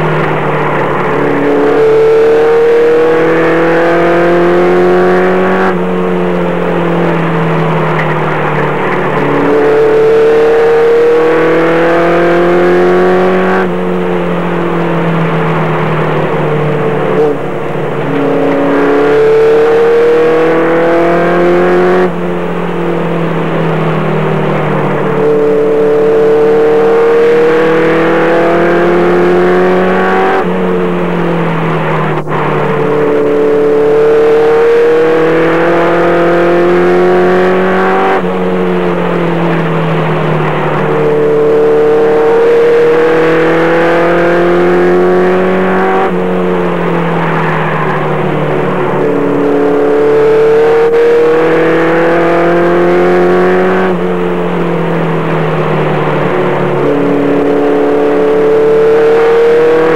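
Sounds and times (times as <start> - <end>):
racing engine from inside cab: 0.0 - 59.9.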